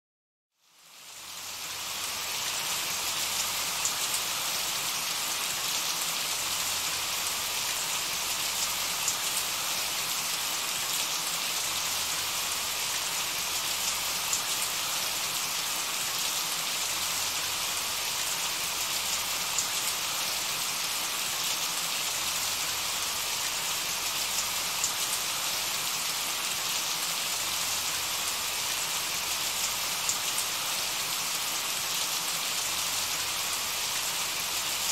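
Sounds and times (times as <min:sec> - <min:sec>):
rain on puddle and leaves: 0:01.0 - 0:34.9.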